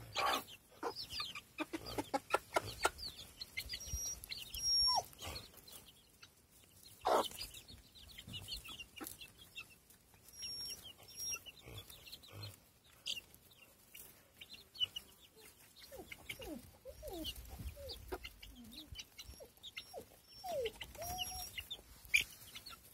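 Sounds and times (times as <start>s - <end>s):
chicks peeping: 0.0s - 22.9s
hens clucking: 0.0s - 22.9s.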